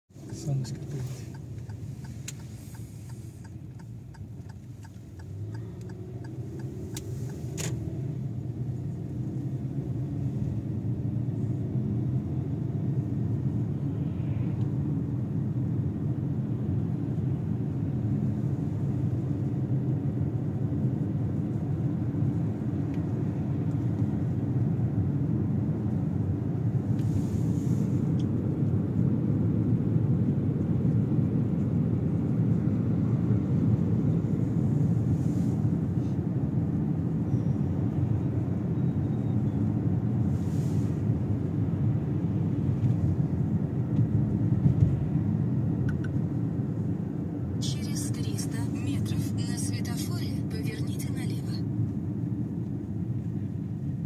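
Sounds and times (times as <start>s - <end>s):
car engine and tyres rumbling: 0.1s - 54.0s.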